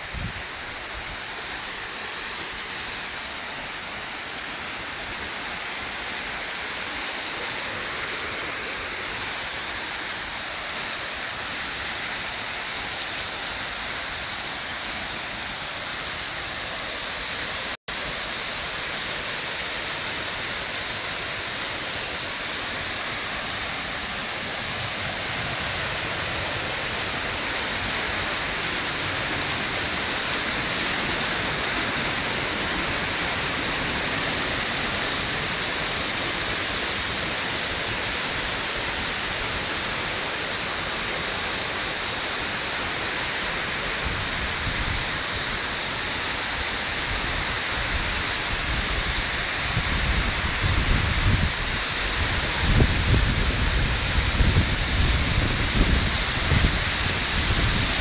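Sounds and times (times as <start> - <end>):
stream flowing: 0.0 - 58.0
waterfall rushing: 0.0 - 58.0.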